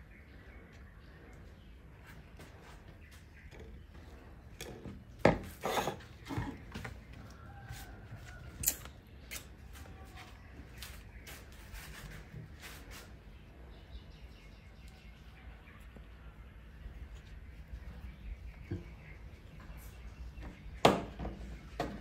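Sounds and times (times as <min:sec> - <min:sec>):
monkey eating and handling food: 0:00.2 - 0:13.7, 0:14.3 - 0:22.0.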